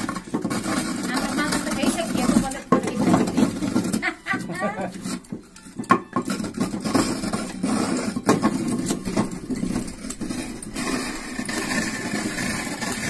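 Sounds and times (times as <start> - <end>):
chisel scraping spinning wood: 0.0 - 13.0
wood lathe running: 0.0 - 13.0.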